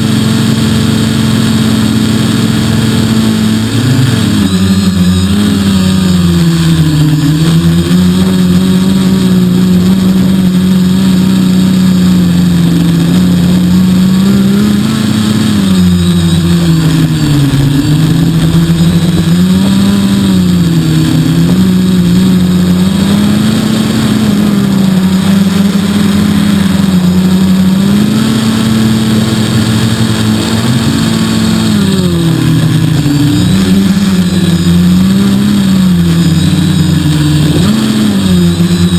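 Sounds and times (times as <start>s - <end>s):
quadcopter motors humming: 0.0s - 38.9s.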